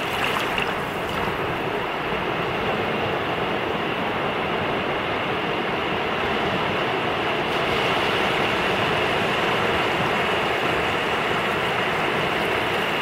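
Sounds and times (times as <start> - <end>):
waves washing on sandy beach: 0.0 - 13.0.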